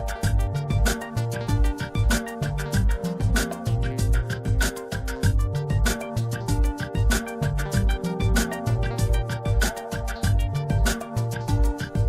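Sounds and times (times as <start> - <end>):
upbeat latin music with drums: 0.0 - 12.0.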